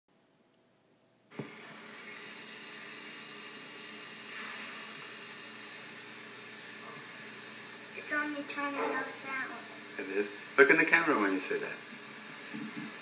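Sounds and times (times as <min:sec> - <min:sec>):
videotape hiss: 0:01.2 - 0:13.0.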